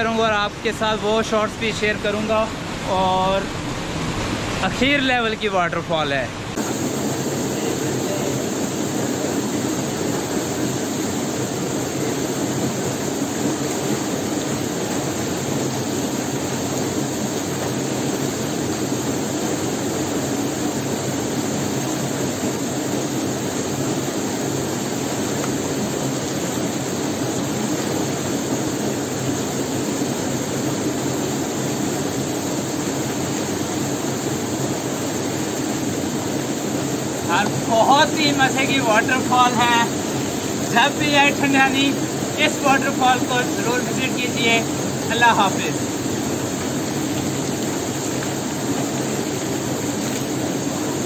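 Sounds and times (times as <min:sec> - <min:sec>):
waterfall rushing into pool: 0:00.0 - 0:51.0.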